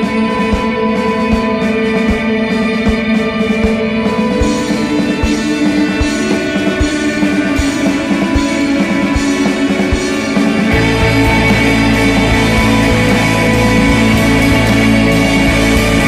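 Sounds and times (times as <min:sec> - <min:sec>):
steady drum beat: 0:00.0 - 0:16.0
sustained guitar tones: 0:00.0 - 0:16.0.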